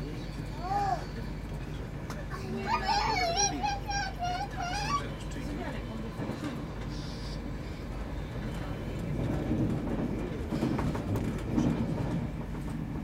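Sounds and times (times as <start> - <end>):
train carriage running rumble: 0.0 - 13.0.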